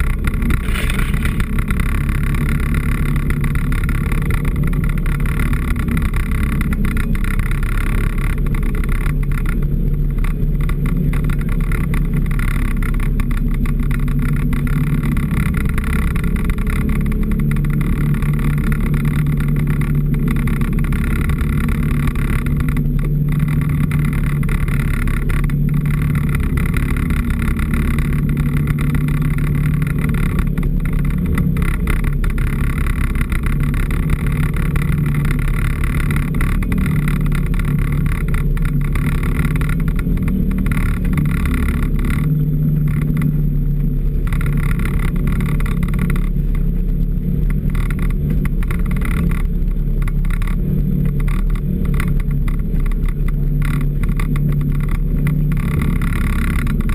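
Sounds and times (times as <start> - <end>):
off-road vehicle engine running: 0.0 - 56.9.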